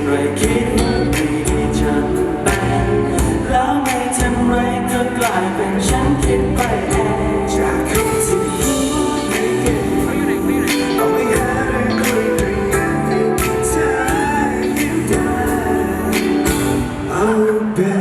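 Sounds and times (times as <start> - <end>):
pop music with singing: 0.0 - 18.0.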